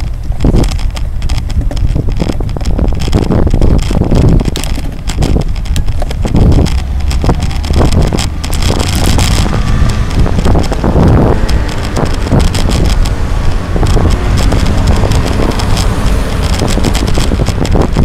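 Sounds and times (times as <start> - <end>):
clicks and knocks from bike: 0.0 - 18.0
wind buffeting microphone: 0.0 - 18.0.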